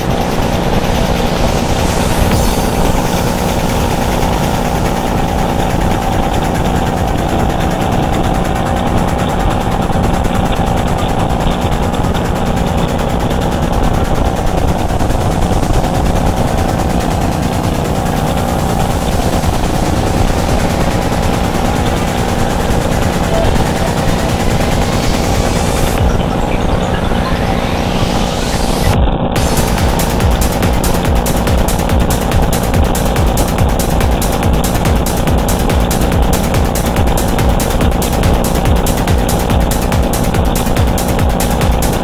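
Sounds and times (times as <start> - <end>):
boat engine pulsing drone: 0.0 - 42.0
rush of boat wake: 0.0 - 42.0.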